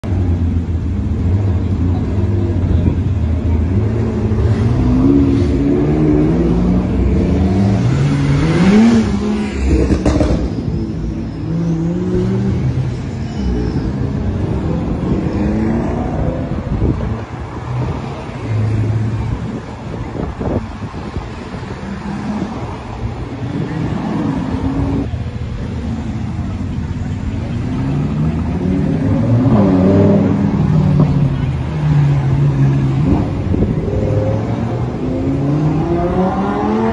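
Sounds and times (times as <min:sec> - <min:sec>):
cars driving past: 0:00.0 - 0:36.9.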